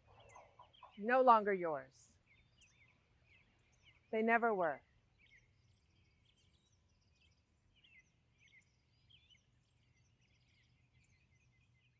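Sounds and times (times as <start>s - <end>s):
faint bird chirps: 0.0s - 1.2s, 2.0s - 11.9s.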